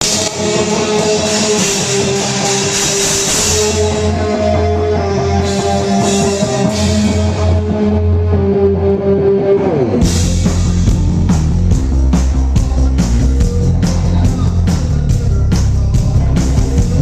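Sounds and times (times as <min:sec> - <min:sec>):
bass guitar: 0:00.0 - 0:17.0
drum kit: 0:00.0 - 0:17.0
electric guitar: 0:00.0 - 0:17.0.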